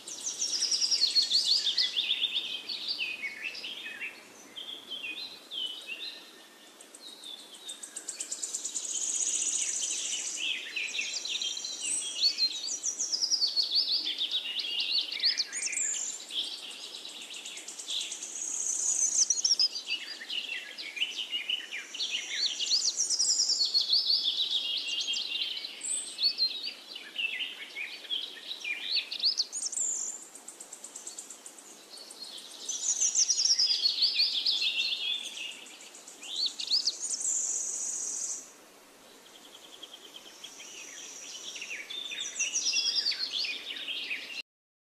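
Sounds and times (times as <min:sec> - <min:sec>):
songbirds chirping and trilling: 0:00.0 - 0:44.4.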